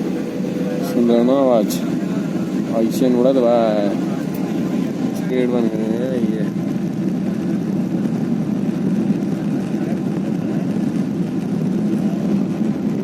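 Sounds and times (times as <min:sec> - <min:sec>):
airliner engines at takeoff: 0:00.0 - 0:13.0.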